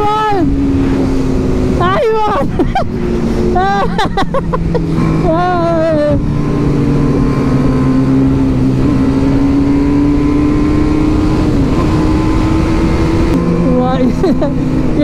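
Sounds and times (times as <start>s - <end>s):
wind rush: 0.0s - 13.8s
motorcycle engine at high revs: 0.0s - 15.0s.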